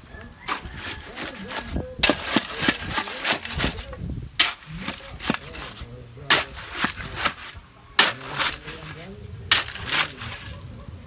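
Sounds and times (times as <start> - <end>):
faint voices: 0.0 - 11.0
hand tools knocking: 0.5 - 10.6.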